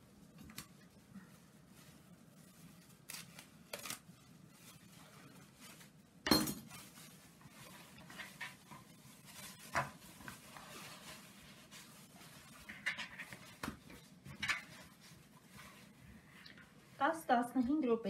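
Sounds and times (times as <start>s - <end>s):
plastic bag rustling: 0.0s - 17.2s.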